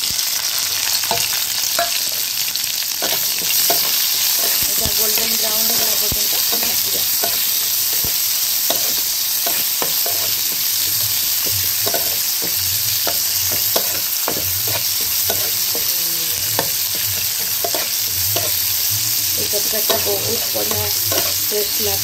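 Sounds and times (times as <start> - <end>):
onions sizzling in oil: 0.0 - 22.0
metal spatula scraping a pan: 0.8 - 2.4, 3.0 - 22.0.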